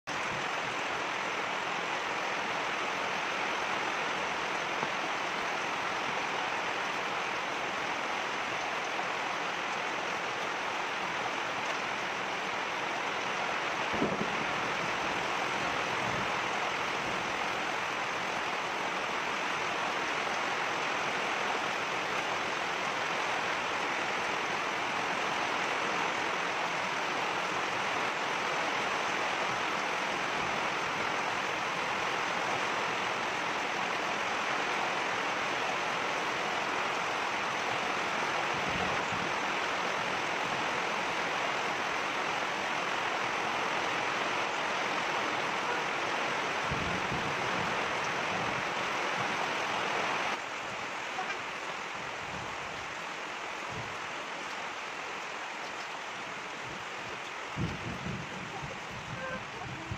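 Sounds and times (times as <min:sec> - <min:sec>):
rain pouring down: 0:00.0 - 0:59.9.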